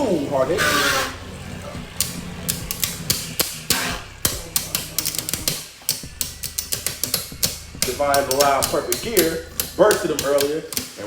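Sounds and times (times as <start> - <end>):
spinning tops clashing: 0.5 - 11.0.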